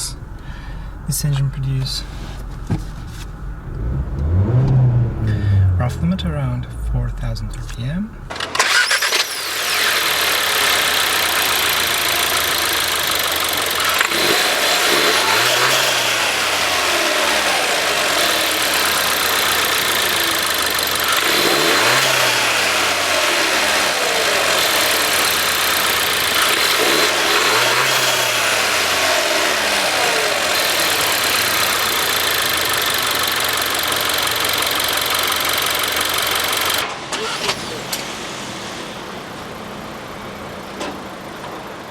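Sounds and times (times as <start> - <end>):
car engine revving: 0.0 - 41.4.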